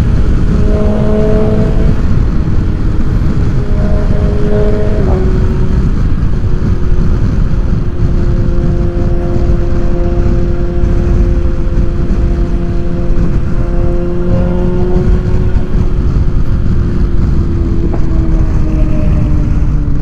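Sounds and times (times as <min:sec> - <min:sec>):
motorcycle engine cruising: 0:00.0 - 0:20.0
wind rush on microphone: 0:00.0 - 0:20.0.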